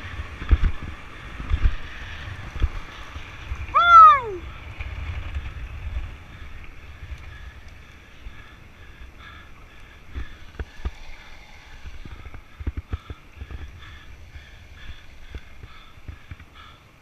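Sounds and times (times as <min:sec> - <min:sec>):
longboard wheels rolling on asphalt: 0:00.0 - 0:17.0
wind buffeting microphone: 0:00.0 - 0:17.0.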